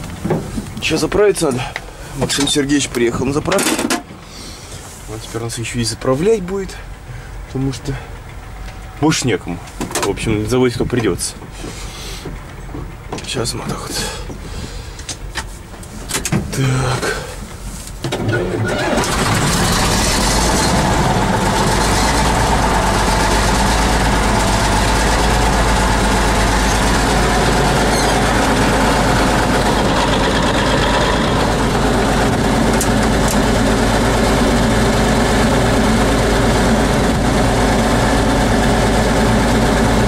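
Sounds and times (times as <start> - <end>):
tractor diesel engine idling: 0.0 - 40.0.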